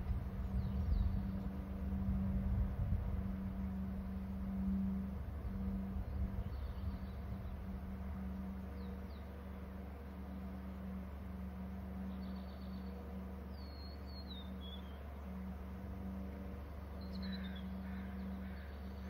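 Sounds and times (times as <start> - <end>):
low rumble: 0.0 - 19.0
steady low hum: 0.0 - 19.0.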